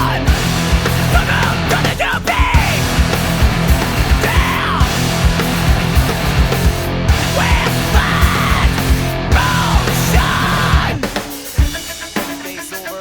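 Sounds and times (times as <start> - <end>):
distorted guitar: 0.0 - 13.0
drum kit: 0.0 - 13.0
heavy rock music: 0.0 - 13.0.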